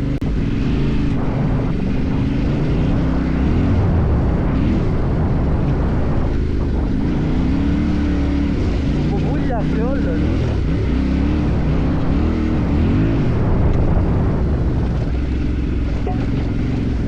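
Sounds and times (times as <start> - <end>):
motorcycle engine revving: 0.0 - 17.0
wind and road noise: 0.0 - 17.0.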